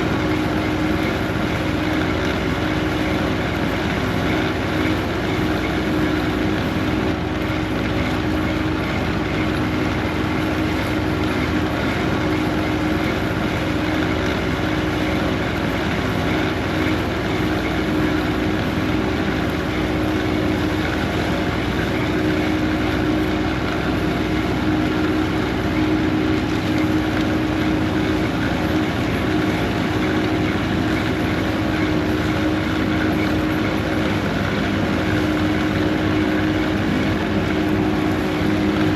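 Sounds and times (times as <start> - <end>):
heavy machinery engine drone: 0.0 - 38.9.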